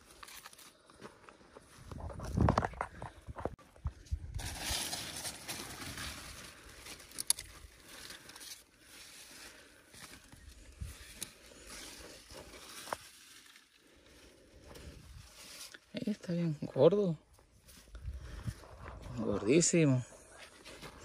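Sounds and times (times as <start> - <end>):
rustling of leafy plants: 0.0 - 21.0.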